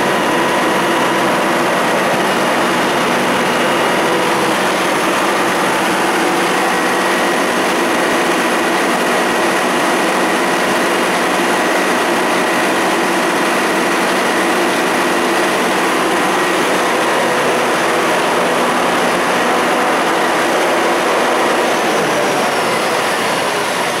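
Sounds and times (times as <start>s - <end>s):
generator engine drone: 0.0s - 24.0s.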